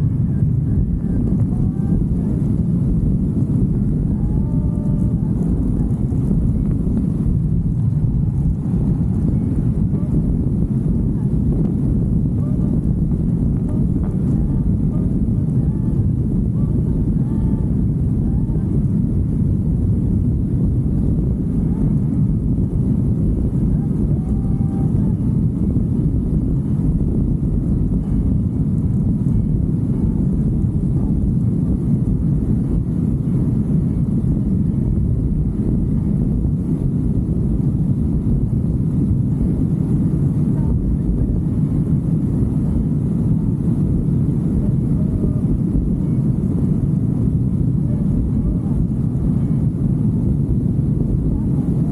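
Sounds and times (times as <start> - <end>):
motorcycle engine rumble: 0.0 - 51.9
wind rush on microphone: 0.0 - 51.9.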